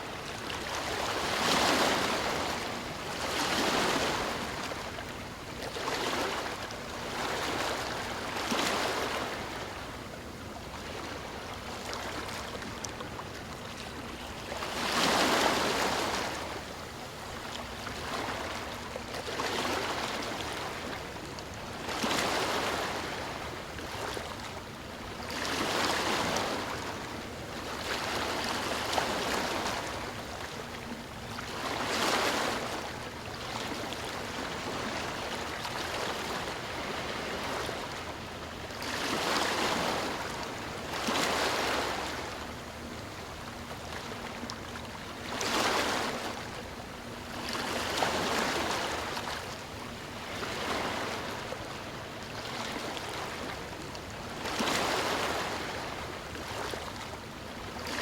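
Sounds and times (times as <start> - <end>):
ocean waves breaking: 0.0 - 10.0, 10.7 - 21.0, 25.1 - 57.1.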